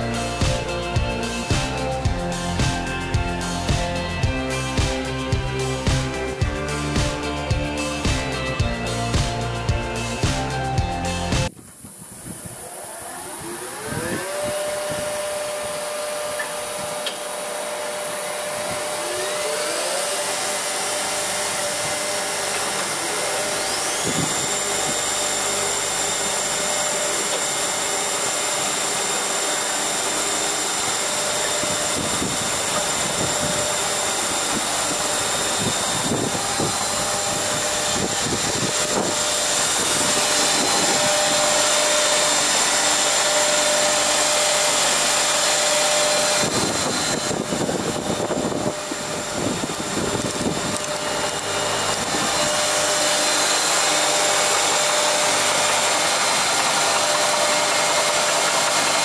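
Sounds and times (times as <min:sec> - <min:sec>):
planer machine whine and hum: 0:00.0 - 0:59.0.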